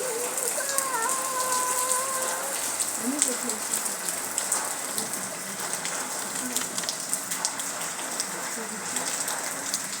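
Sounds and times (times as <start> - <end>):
rain falling: 0.0 - 10.0
raindrops striking a surface: 0.0 - 10.0.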